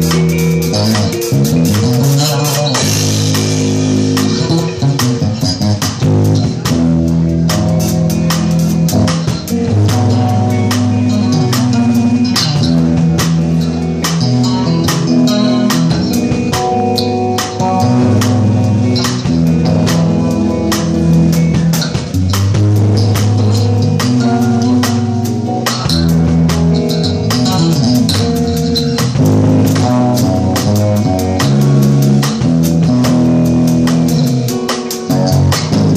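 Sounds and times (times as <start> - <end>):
drum kit steady beat: 0.0 - 35.9
fingerstyle electric bass: 0.0 - 35.9.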